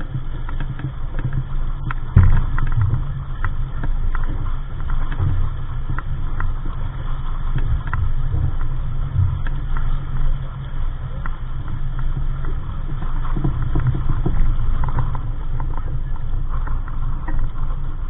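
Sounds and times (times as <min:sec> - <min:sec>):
water slapping against hull: 0:00.0 - 0:18.0
wind buffeting microphone: 0:00.0 - 0:18.0.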